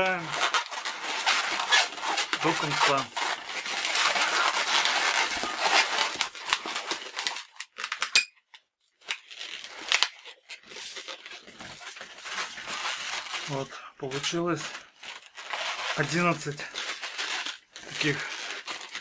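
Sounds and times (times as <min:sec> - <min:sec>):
balloons squeaking and rubbing: 0:00.0 - 0:07.8, 0:09.2 - 0:19.0.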